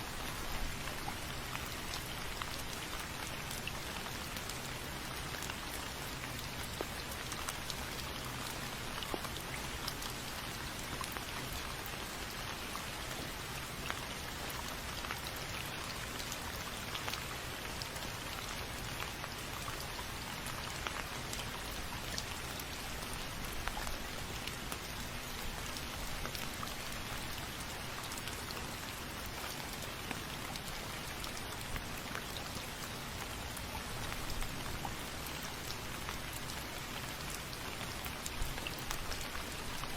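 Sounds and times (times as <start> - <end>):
steady rain hiss: 0.0 - 39.9
raindrops ticking: 0.1 - 39.9.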